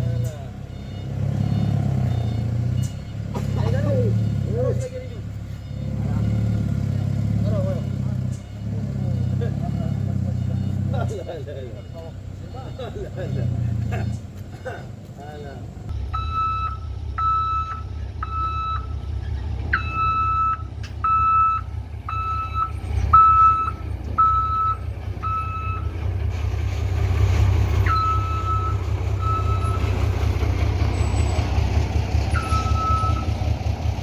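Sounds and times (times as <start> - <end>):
truck reversing alarm beeping: 0.0 - 26.2, 27.0 - 34.0
truck engine rumble: 0.0 - 34.0.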